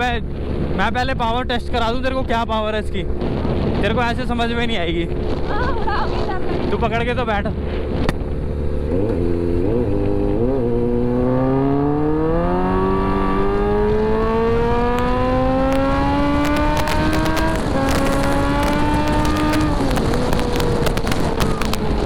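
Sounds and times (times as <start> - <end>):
motorcycle engine accelerating: 2.8 - 22.0.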